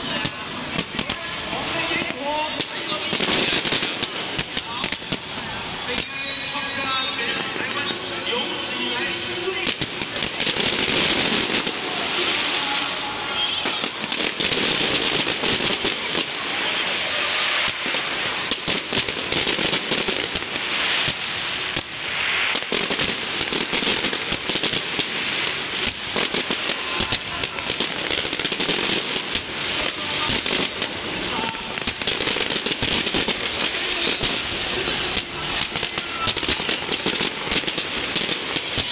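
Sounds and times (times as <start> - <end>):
continuous crackling hiss: 0.0 - 38.9
fireworks crackling pops and bangs: 0.0 - 38.9.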